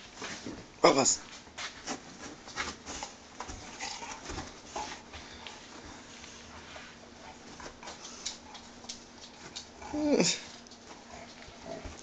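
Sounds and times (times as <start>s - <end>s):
dogs scuffling on couch: 0.0s - 9.8s.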